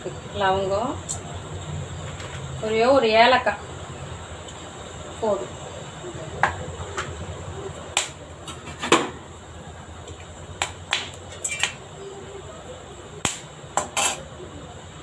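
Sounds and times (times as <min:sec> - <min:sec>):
spices crackling in hot oil: 0:00.0 - 0:15.0.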